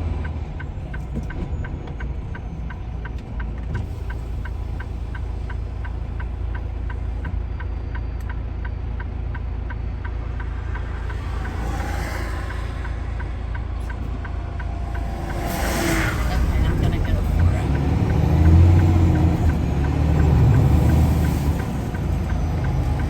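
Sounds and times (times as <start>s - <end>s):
diesel engine rumble: 0.0s - 23.0s.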